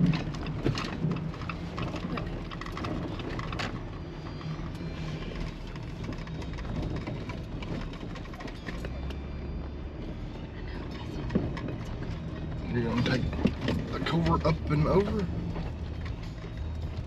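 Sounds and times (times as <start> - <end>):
car engine and tyre hum: 0.0 - 17.0
light clicks and rattles: 0.0 - 17.0.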